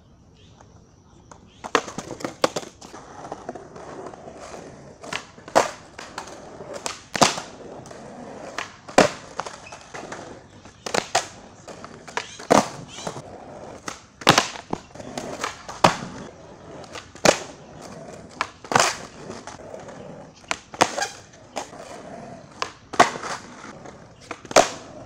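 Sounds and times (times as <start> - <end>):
skateboard wheels rolling on stone: 0.6 - 25.0
skateboard tail pops and landings: 1.3 - 25.0.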